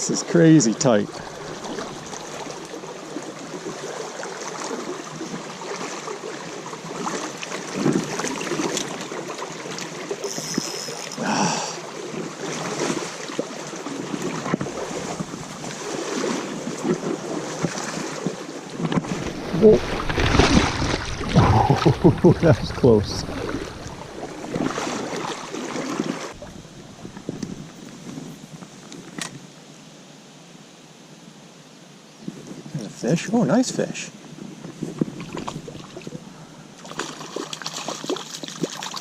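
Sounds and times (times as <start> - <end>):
creek running: 0.0 - 29.6, 32.6 - 39.0.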